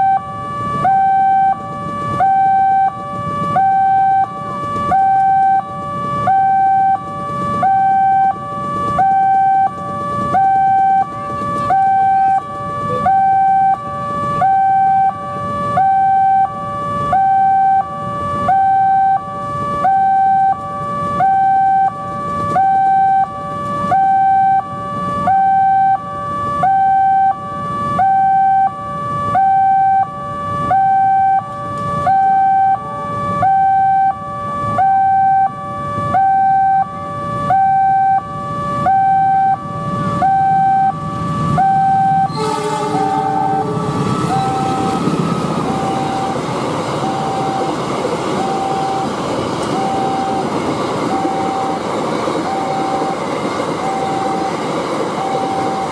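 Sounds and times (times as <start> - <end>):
diesel locomotive rumble: 0.0 - 55.9
two-tone level-crossing alarm: 0.0 - 55.9.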